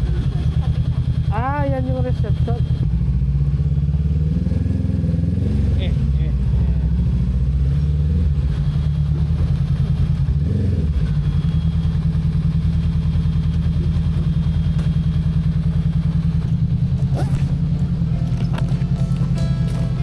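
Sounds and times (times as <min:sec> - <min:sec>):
motorcycle engine running at low revs: 0:00.0 - 0:20.0.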